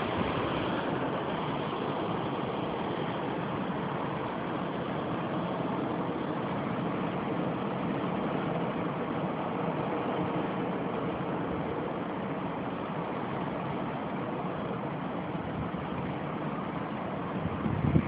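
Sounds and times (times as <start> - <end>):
blizzard wind rushing: 0.0 - 18.0.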